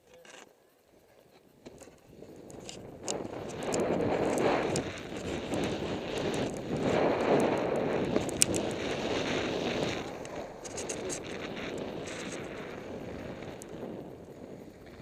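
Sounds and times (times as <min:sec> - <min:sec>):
skis scraping over snow: 0:01.3 - 0:15.0
wind buffeting microphone: 0:01.6 - 0:15.0.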